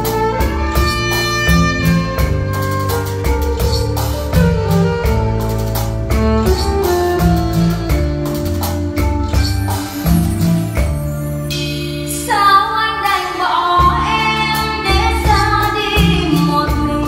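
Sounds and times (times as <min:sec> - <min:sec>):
band music with drum beat: 0:00.0 - 0:17.0.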